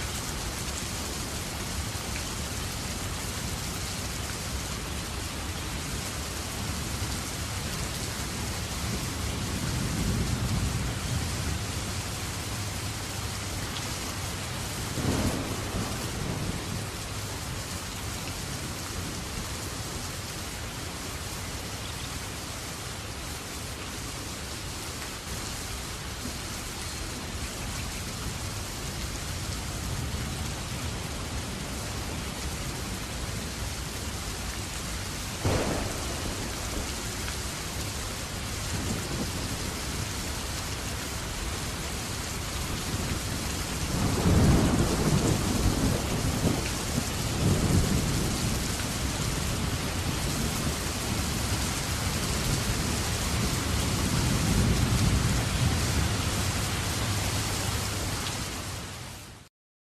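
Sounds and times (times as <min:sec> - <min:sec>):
rain falling steadily: 0:00.0 - 0:59.5.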